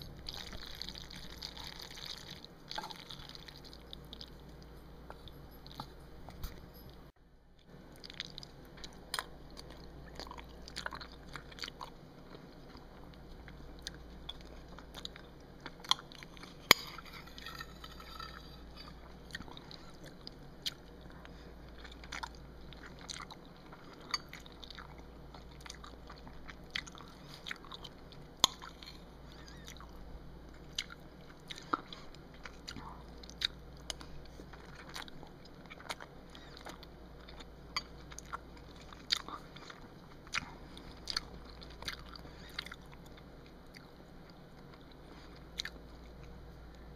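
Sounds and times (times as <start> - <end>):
chewing and wet mouth sounds: 0.0 - 46.9.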